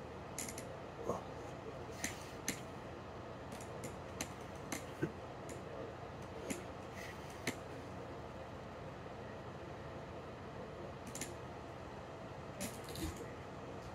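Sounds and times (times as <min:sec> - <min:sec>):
room hum: 0:00.0 - 0:13.9.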